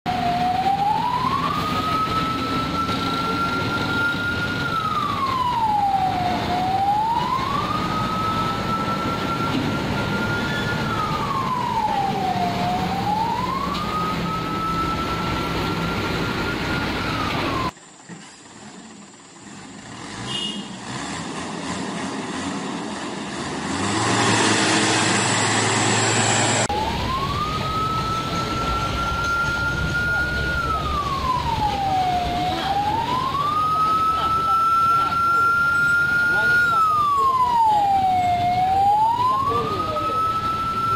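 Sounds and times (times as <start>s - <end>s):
traffic rumble: 0.0s - 40.9s
truck engines: 0.0s - 40.9s
vehicle siren wailing: 0.1s - 17.8s, 23.6s - 40.9s.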